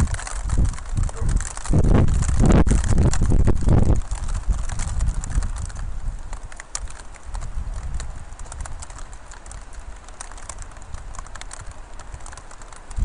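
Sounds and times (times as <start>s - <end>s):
hail striking hard surfaces: 0.0s - 13.0s.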